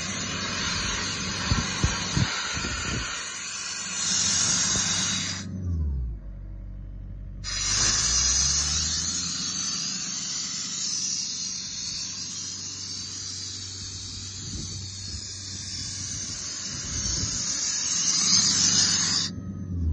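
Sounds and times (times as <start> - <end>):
compressed air hissing: 0.0 - 5.5, 7.4 - 19.4
air compressor engine humming: 0.0 - 5.6, 7.4 - 19.9.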